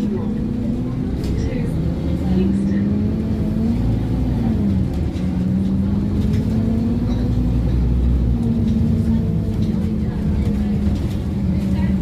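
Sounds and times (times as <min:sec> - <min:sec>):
bus diesel engine drone: 0:00.0 - 0:12.0
road noise: 0:00.0 - 0:12.0.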